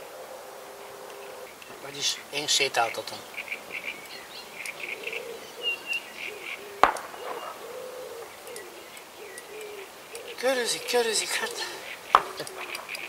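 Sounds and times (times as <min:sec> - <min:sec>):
birds hooting: 0:00.0 - 0:13.0
bird chirps: 0:01.1 - 0:13.0.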